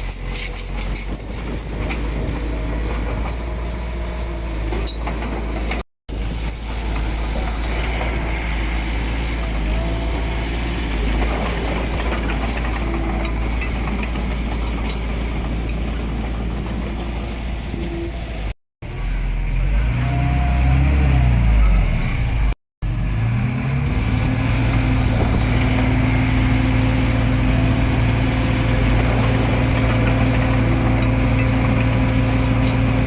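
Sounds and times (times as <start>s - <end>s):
heavy diesel engine running: 1.7s - 33.0s.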